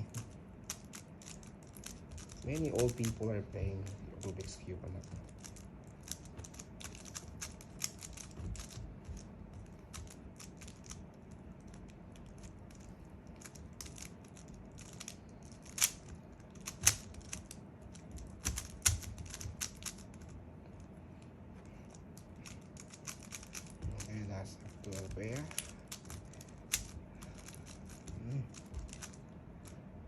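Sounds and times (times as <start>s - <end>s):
speed cube clacks: 0.0s - 20.4s, 21.8s - 29.8s
speed cube layers clicking: 0.0s - 20.4s, 21.9s - 29.8s.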